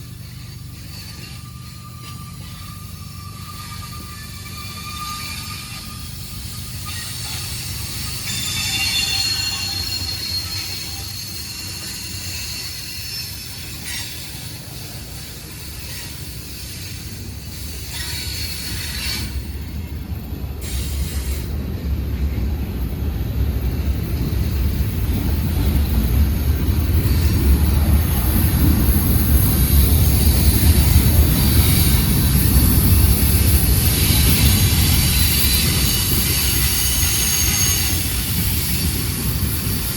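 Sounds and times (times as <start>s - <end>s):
train cars rumbling on rails: 0.0s - 39.9s
train wheel squeal: 0.0s - 39.9s.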